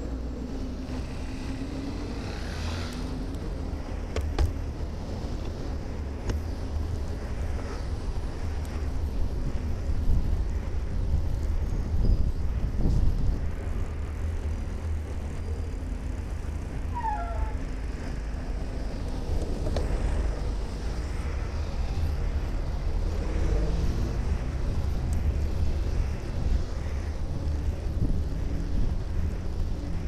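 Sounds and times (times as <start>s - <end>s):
buses and cars passing: 0.0s - 30.0s
wind rumbling on microphone: 0.0s - 30.0s.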